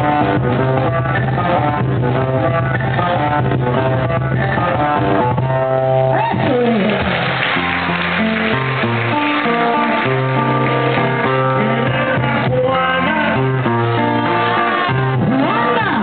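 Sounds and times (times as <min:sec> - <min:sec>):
bass notes: 0:00.0 - 0:16.0
plucked guitar melody: 0:00.0 - 0:16.0.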